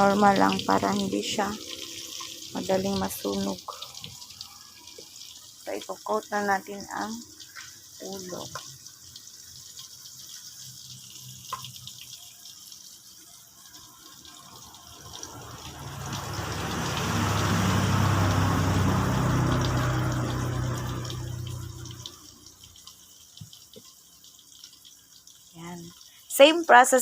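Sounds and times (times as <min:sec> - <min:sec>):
chicken frying in oil: 0:00.0 - 0:27.0.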